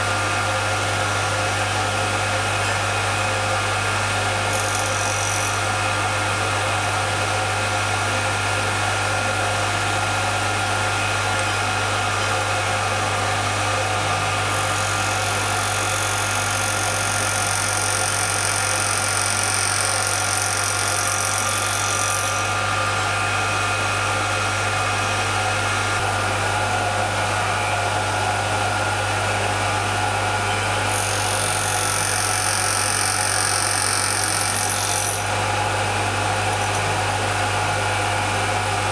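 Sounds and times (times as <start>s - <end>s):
milling machine spindle running: 3.0s - 7.2s, 8.7s - 38.9s.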